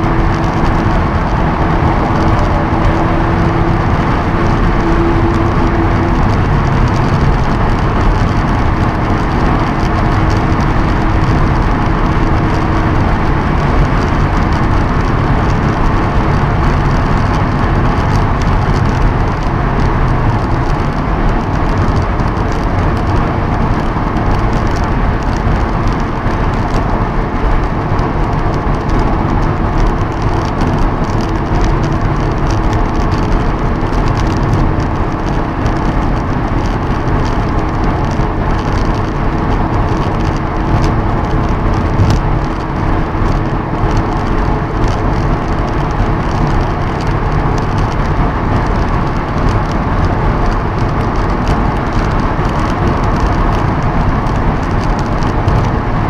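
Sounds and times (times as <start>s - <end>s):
car engine drone: 0.0s - 56.0s
road noise: 0.0s - 56.0s
wind noise: 0.0s - 56.0s.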